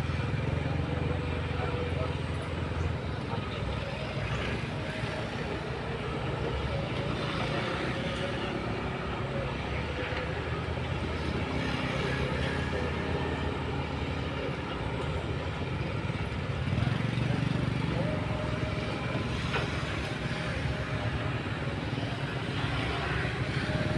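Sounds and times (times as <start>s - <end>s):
distant diesel engines droning: 0.0s - 23.9s.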